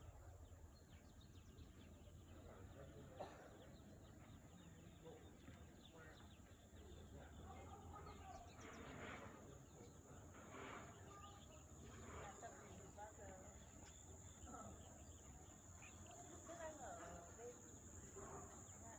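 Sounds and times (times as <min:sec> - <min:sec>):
faint bird chirps: 0:00.0 - 0:18.9.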